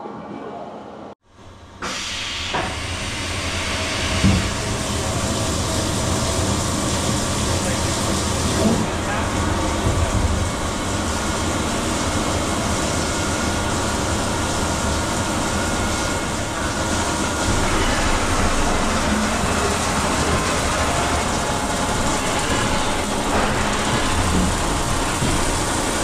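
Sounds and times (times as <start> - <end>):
coolant spray hissing and spattering: 1.9 - 26.0
cnc mill spindle cutting: 2.5 - 26.0.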